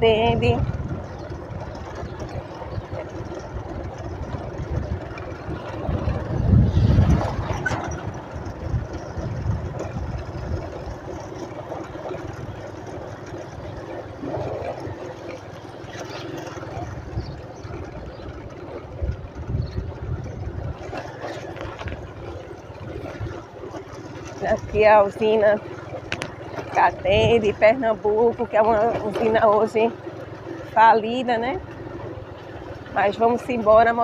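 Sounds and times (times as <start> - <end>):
vehicle driving slowly: 0.0 - 34.0.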